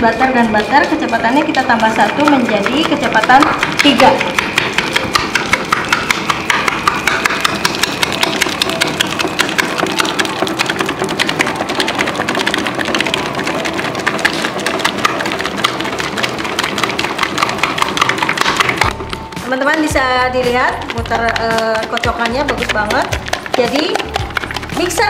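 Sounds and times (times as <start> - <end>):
stand mixer motor running: 0.0 - 19.3, 20.6 - 25.0
dough slapping against bowl: 0.0 - 25.0.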